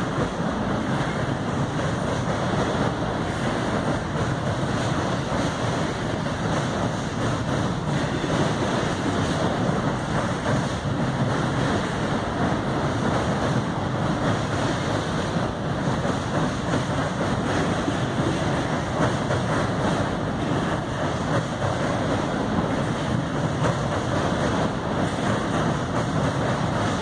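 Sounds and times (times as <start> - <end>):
freight train rumbling over bridge: 0.0 - 27.0.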